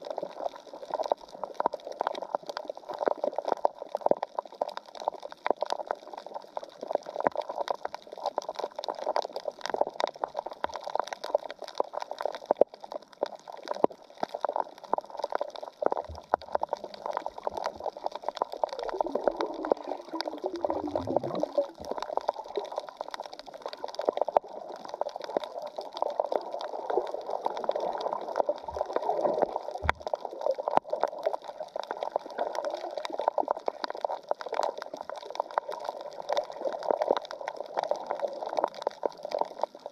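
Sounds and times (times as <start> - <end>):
underwater crackling and bubbling: 0.0 - 39.9.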